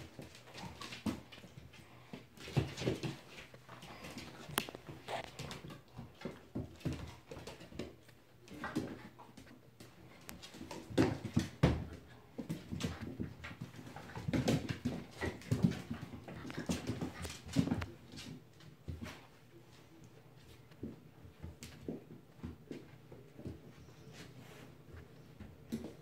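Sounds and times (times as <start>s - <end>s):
puppies scuffling: 0.0s - 26.0s.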